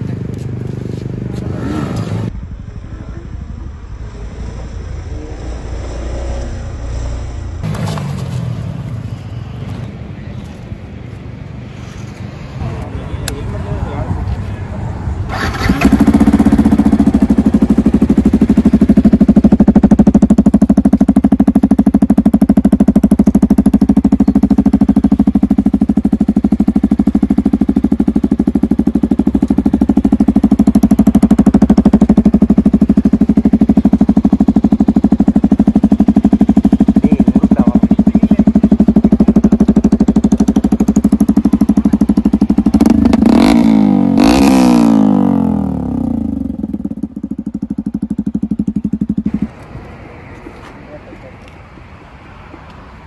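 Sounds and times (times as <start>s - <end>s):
motorcycle engine running: 0.0s - 11.0s, 15.3s - 53.0s.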